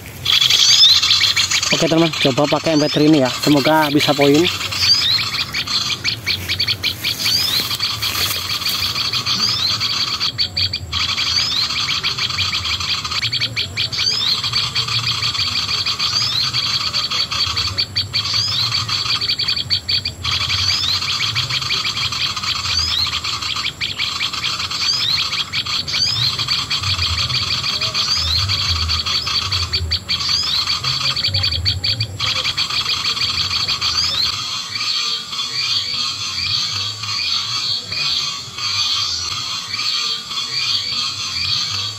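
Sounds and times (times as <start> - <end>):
recorded bird call through speaker: 0.0 - 41.9.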